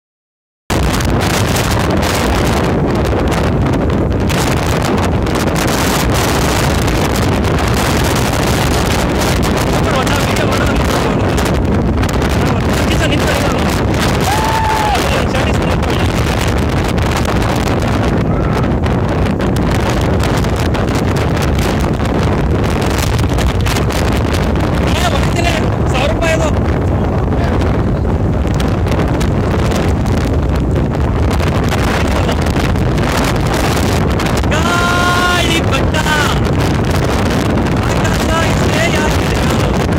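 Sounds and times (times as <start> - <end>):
strong wind buffeting microphone: 0.7 - 39.9.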